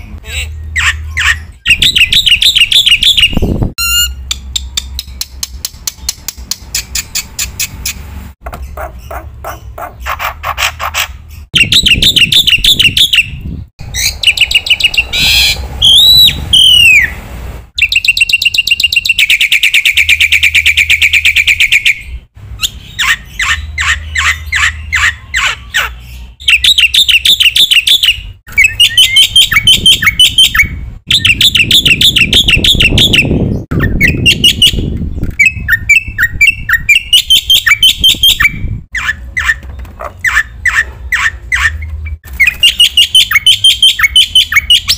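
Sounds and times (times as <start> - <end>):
bird singing loudly: 0.2 - 4.3, 11.5 - 17.2, 17.8 - 39.6, 40.2 - 44.9.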